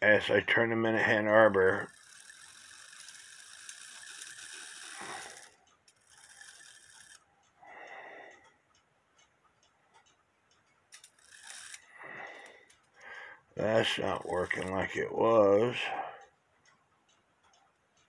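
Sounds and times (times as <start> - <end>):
clock movement clicks and rattles: 0.1 - 7.6, 8.3 - 18.0
clock wheels ratcheting whirr: 0.1 - 16.3.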